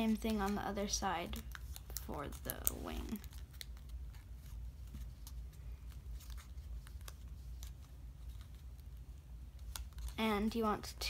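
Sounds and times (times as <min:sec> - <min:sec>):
paper crinkling and clicking: 0:00.0 - 0:08.9, 0:09.6 - 0:10.2
steady low hum: 0:00.0 - 0:11.0.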